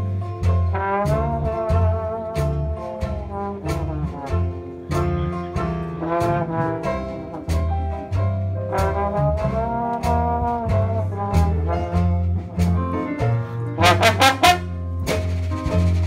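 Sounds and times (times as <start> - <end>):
jazz band playing: 0.0 - 16.0
loud drum strokes: 0.0 - 16.0.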